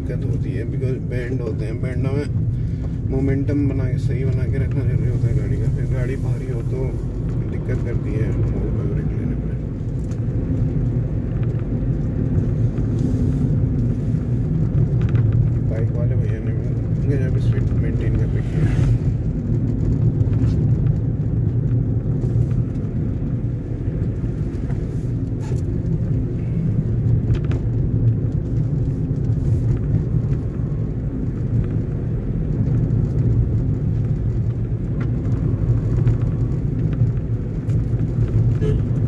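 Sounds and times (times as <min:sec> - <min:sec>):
car engine and tyres rumbling: 0:00.0 - 0:39.0.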